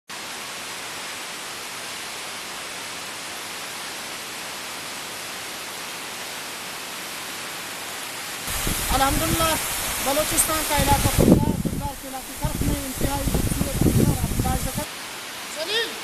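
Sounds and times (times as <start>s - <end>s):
waterfall rushing: 0.1s - 16.0s.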